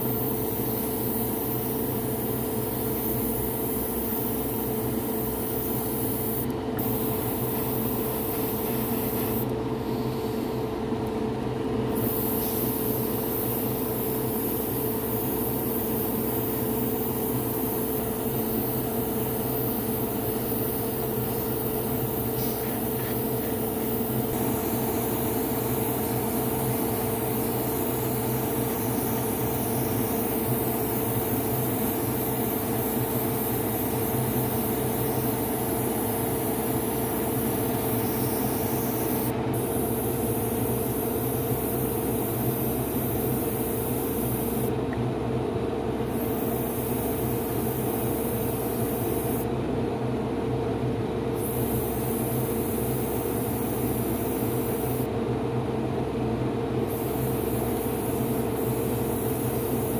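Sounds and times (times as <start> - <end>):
airbrush spraying hiss: 0.0 - 10.7, 11.9 - 44.7, 46.1 - 49.5, 51.4 - 55.1, 56.9 - 59.9
extractor fan humming: 0.0 - 49.5.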